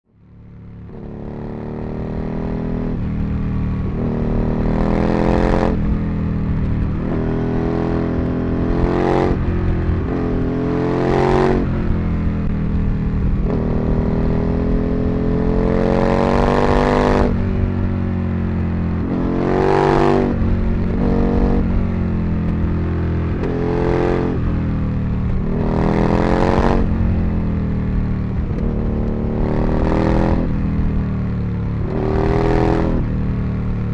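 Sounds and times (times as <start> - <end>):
motorcycle engine revving: 0.3 - 33.9.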